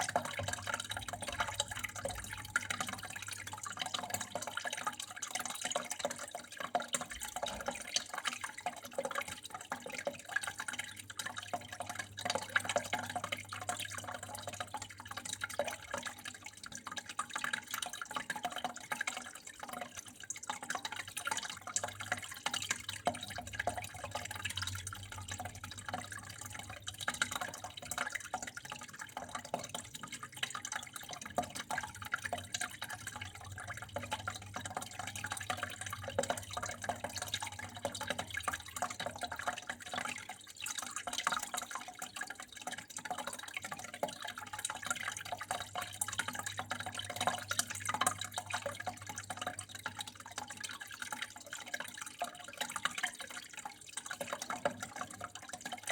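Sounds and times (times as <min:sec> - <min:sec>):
water drips and splashes: 0:00.0 - 0:55.9
water flowing and trickling: 0:00.0 - 0:55.9.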